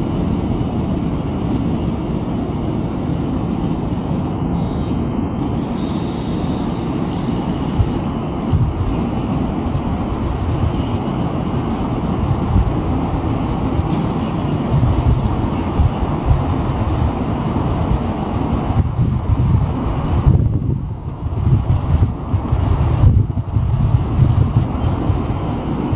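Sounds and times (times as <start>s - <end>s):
electric train rumbling: 0.0s - 25.9s.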